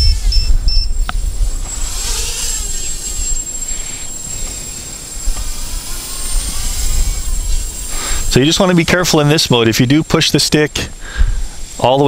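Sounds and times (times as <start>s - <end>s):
wind rumble on microphone: 0.0s - 9.4s, 11.0s - 12.0s
quadcopter motors whining: 0.0s - 12.0s.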